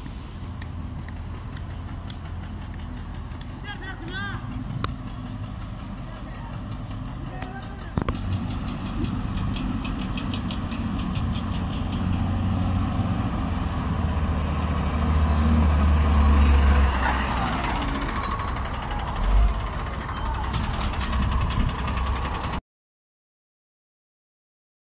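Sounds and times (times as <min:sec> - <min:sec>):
diesel engine droning: 0:00.0 - 0:22.6.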